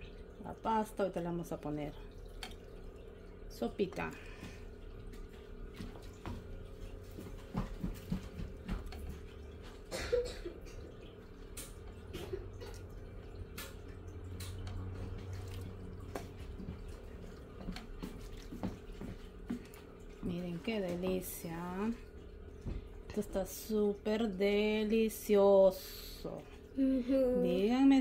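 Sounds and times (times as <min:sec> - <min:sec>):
broth pouring and dripping: 0:00.0 - 0:28.0.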